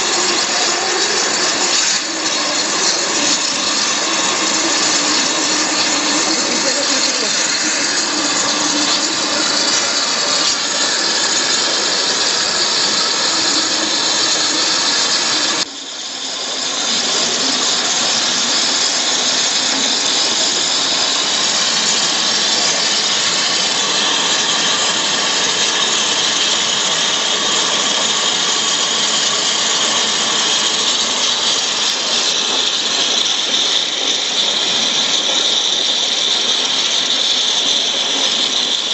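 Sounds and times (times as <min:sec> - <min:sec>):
waterjet hissing: 0:00.0 - 0:38.9.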